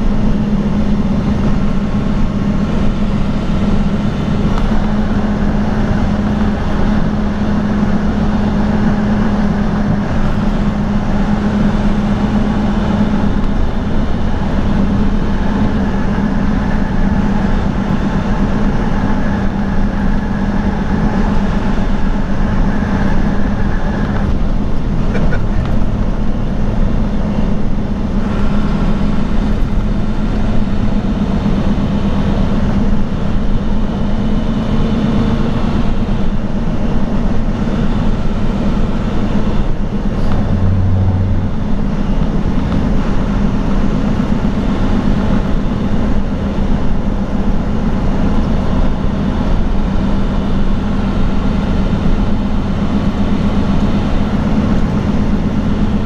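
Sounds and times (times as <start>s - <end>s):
truck engine drone: 0.0s - 56.0s
tyre and road rumble: 0.0s - 56.0s.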